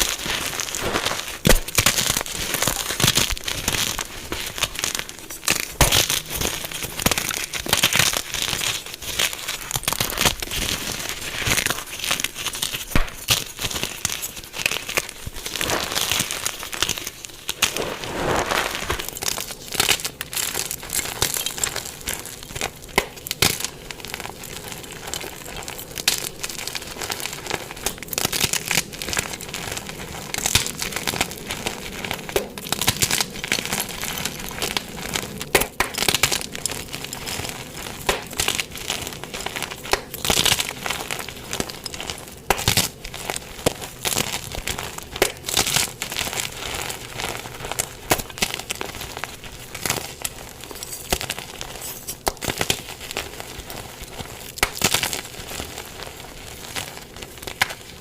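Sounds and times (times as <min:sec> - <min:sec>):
chalk being crushed and crumbled: 0:00.0 - 0:58.0.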